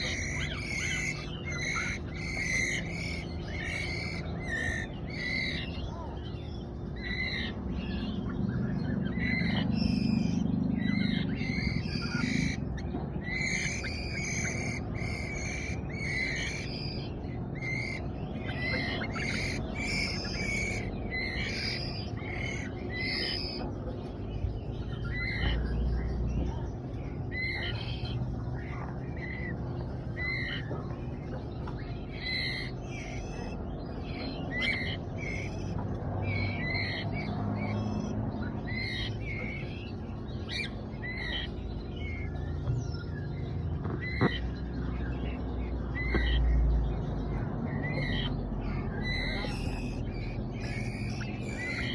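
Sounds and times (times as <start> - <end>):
young bird begging calls: 0.0 - 45.2, 47.3 - 51.9.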